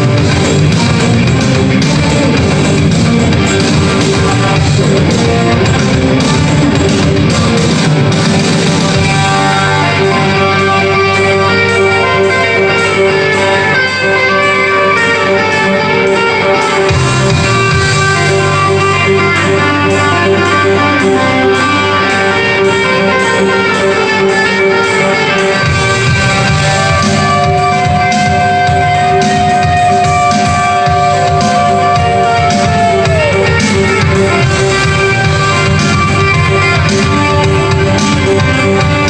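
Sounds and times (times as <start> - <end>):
electric guitar melody: 0.0 - 39.0.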